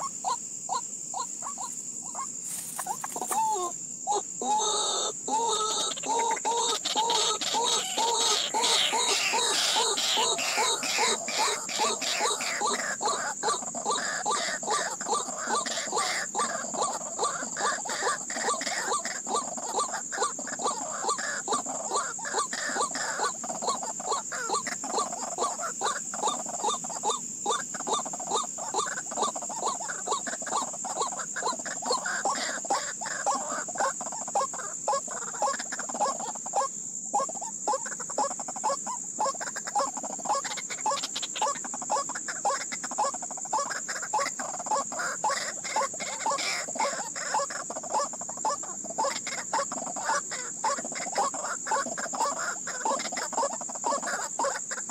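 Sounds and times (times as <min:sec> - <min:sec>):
bird harsh clucking calls: 0:00.0 - 0:54.9.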